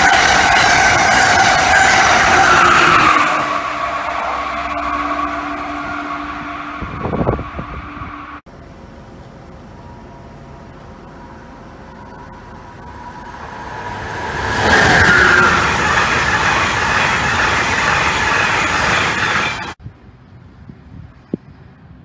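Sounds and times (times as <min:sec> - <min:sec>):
train passing at speed: 0:00.0 - 0:20.1.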